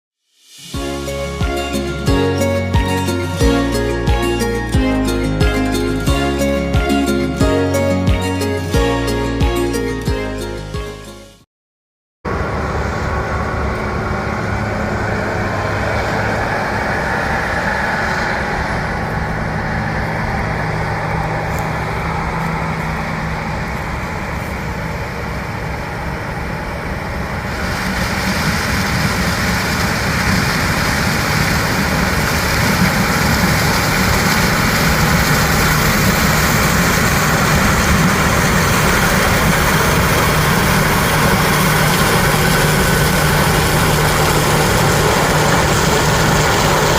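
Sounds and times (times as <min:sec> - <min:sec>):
diesel engine running: 0:00.7 - 0:11.1, 0:12.3 - 0:46.9.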